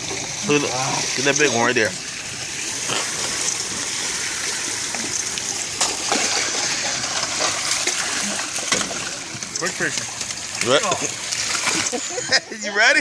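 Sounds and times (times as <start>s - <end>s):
water rushing: 0.0s - 13.0s
water splashing: 0.0s - 13.0s.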